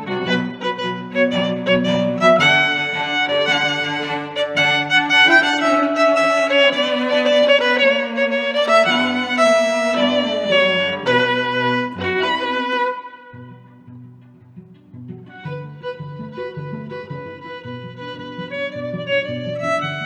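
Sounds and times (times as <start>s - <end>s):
slow bowed-string melody: 0.0s - 20.0s.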